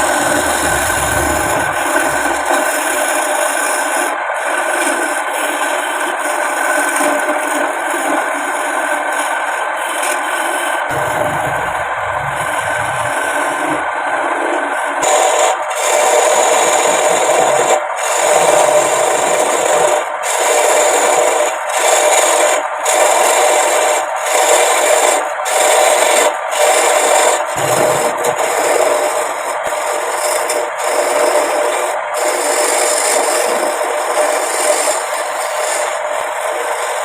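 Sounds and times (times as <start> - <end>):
tool scraping wood: 0.0 - 37.0.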